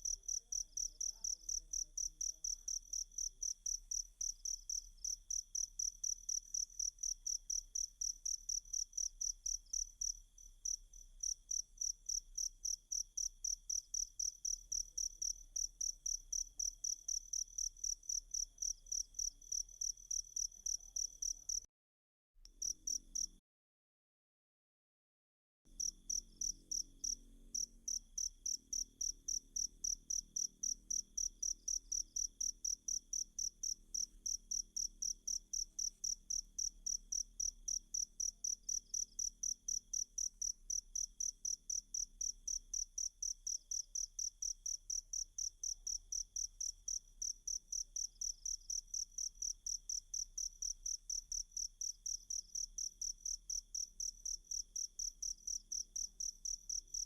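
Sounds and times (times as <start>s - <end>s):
cricket chirping: 0.0s - 21.7s, 22.6s - 23.3s, 25.7s - 57.0s.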